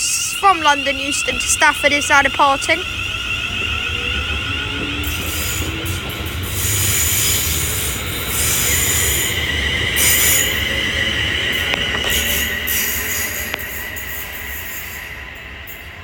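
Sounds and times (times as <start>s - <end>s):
electric train whine and rumble: 0.0s - 16.0s
train hissing: 0.0s - 16.0s.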